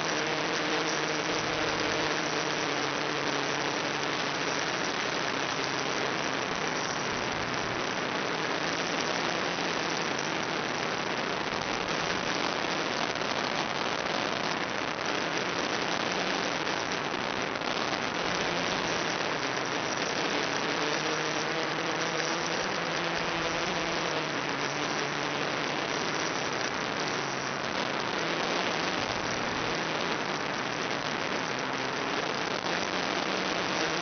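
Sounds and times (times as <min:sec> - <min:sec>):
static hiss: 0:00.0 - 0:34.0.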